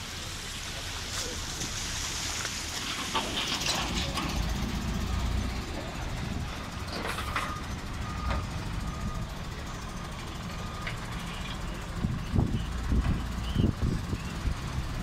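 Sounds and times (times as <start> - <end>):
minibus engine passing: 0.0 - 15.0.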